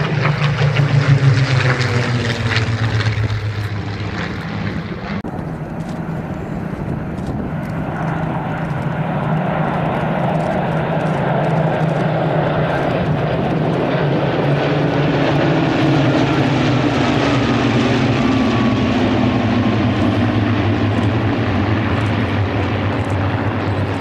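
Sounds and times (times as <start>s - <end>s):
aircraft engines roaring overhead: 0.0s - 24.0s.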